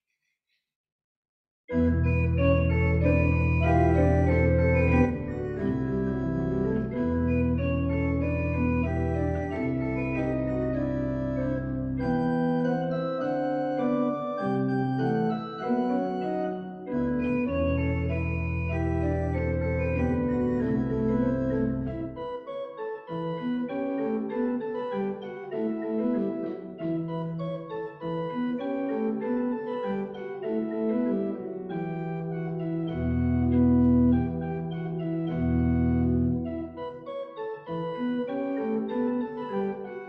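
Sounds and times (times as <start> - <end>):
church organ chords: 1.7 - 40.0.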